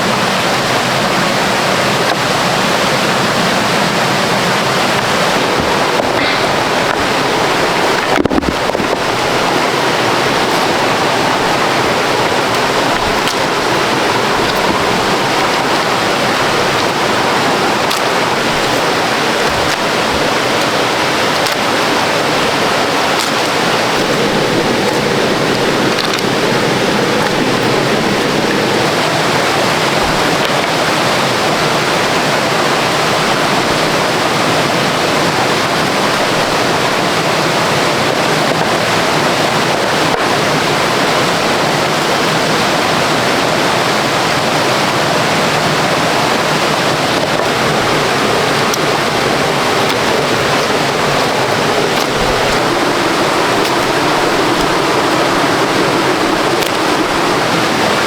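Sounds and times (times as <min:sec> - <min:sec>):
waterfall rapids rushing: 0:00.0 - 0:58.0.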